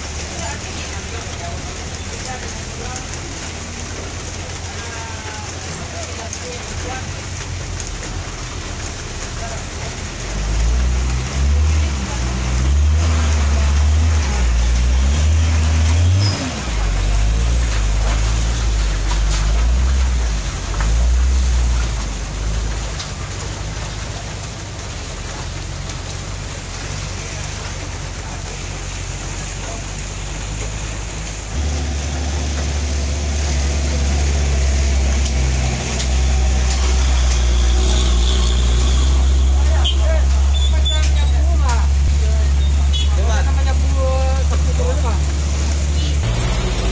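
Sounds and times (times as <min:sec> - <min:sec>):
rain hissing on wet road: 0:00.0 - 0:46.9
truck engine deep drone: 0:00.0 - 0:46.9.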